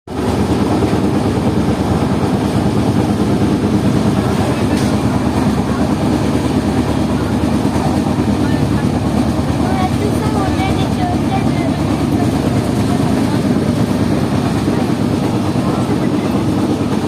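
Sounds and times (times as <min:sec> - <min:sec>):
train running: 0:00.1 - 0:17.0.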